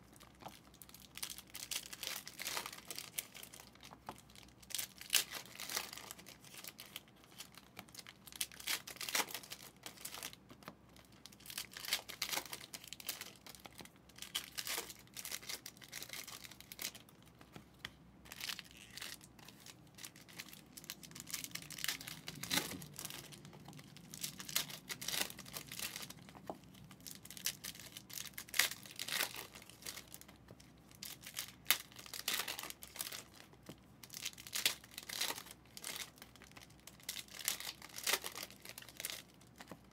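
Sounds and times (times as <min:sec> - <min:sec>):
cards and foil wrappers crinkling: 0:00.0 - 0:39.9.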